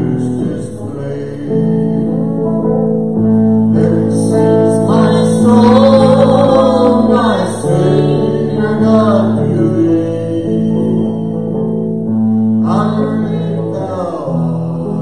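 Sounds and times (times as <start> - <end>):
guitars holding chords: 0.0 - 15.0
sung melody: 0.0 - 15.0.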